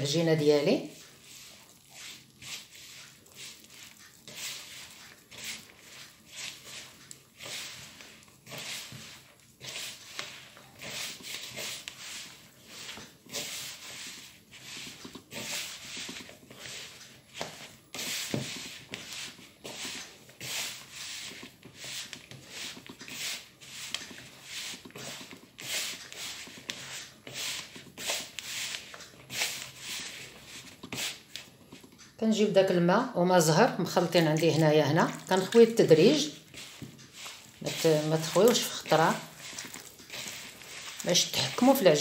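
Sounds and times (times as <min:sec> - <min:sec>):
hands rubbing fat into flour: 0:00.0 - 0:32.0, 0:33.5 - 0:42.0.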